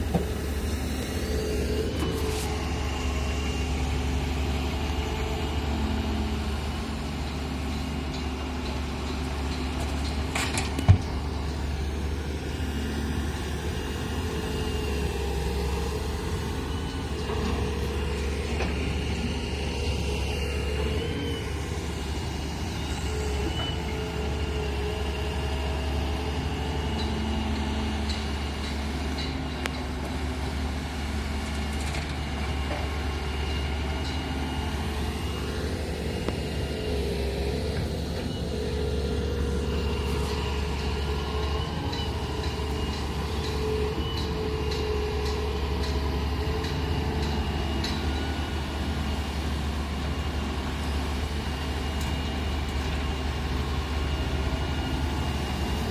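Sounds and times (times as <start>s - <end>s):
hydraulic whine: 0.0s - 6.5s, 10.2s - 28.5s, 32.3s - 55.9s
excavator diesel engine running: 0.0s - 55.9s.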